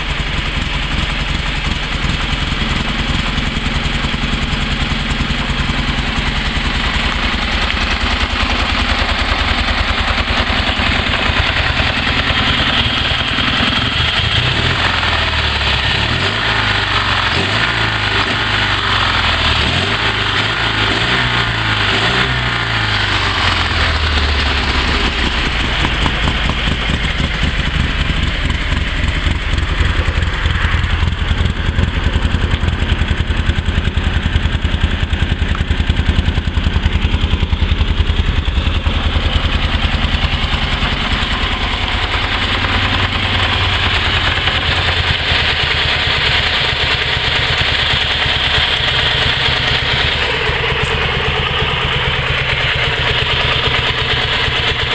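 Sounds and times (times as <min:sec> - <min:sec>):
engine idling and revving: 0:00.0 - 0:54.9.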